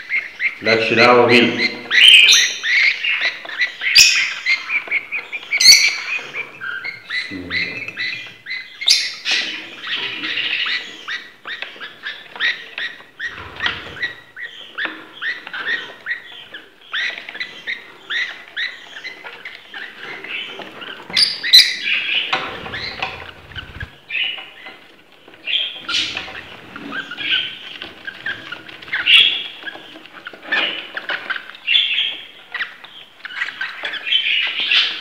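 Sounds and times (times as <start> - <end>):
budgerigars chirping: 0.0 - 35.0.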